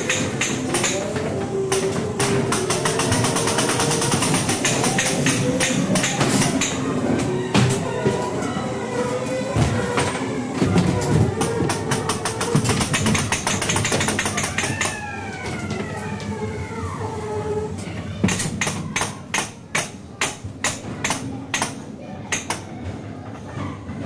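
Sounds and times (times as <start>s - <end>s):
ride car clattering along track: 0.0s - 16.4s, 17.9s - 24.0s.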